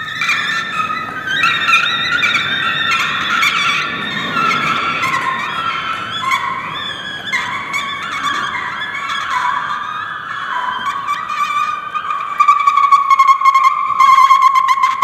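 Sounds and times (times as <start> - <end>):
sliding sustained high tones: 0.0 - 15.0.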